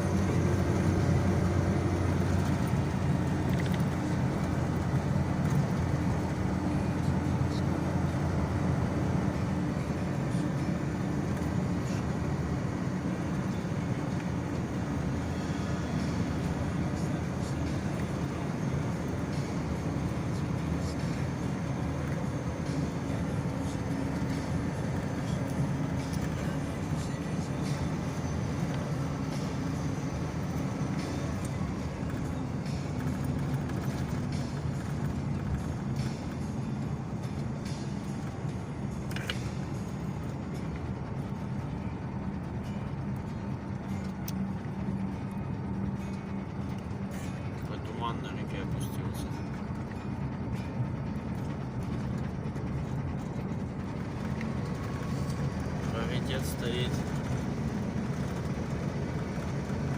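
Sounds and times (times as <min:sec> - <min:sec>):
vehicle engine and tyre rumble: 0:00.0 - 0:59.9.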